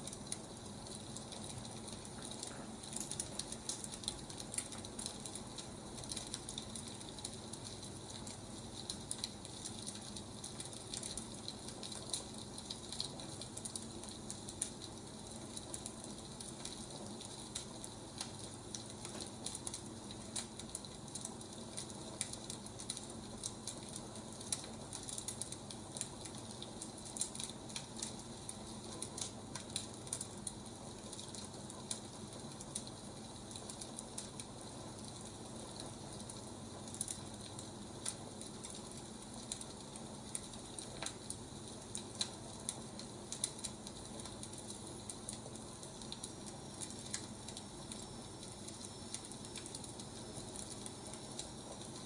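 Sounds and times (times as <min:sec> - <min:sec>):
sharp pops and snaps: 0:00.0 - 0:52.0
soft steady hiss: 0:00.0 - 0:52.0
wood fire crackling: 0:00.0 - 0:52.0.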